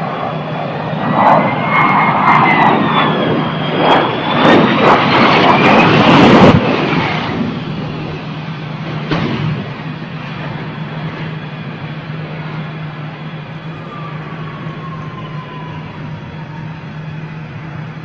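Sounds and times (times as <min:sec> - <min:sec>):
jet engine high whine: 0:00.0 - 0:18.0
jet engines roaring: 0:00.0 - 0:18.0.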